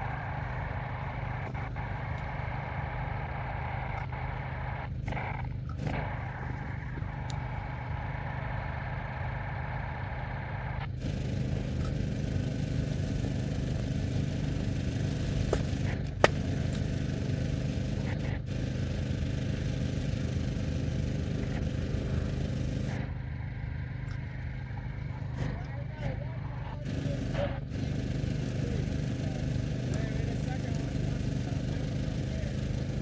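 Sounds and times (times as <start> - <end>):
small engine running: 0.0 - 33.0.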